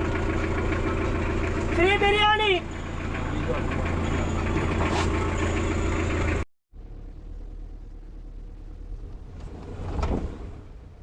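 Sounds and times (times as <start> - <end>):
quiet engine rumble: 0.0 - 11.0
vehicle engine humming: 0.0 - 11.0.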